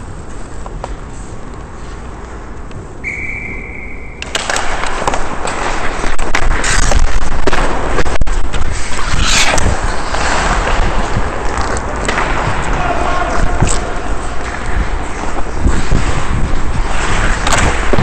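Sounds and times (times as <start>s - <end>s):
ice skates scraping on rink: 0.0s - 3.0s, 4.2s - 18.0s.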